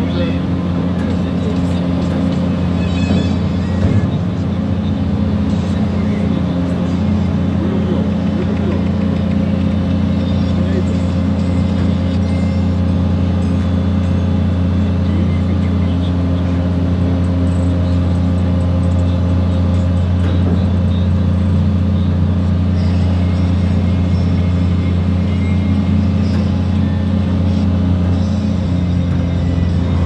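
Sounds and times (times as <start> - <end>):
crane diesel engine droning: 0.0 - 30.0.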